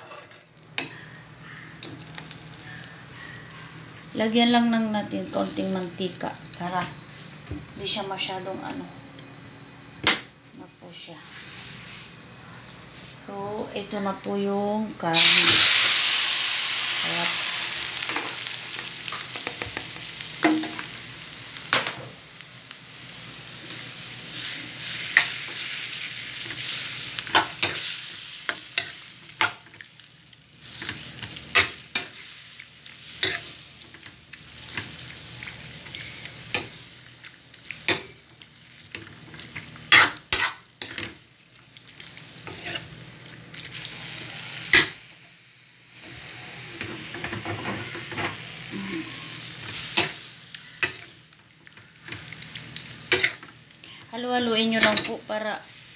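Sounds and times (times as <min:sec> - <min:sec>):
meat sizzling in a wok: 0:00.0 - 0:55.9.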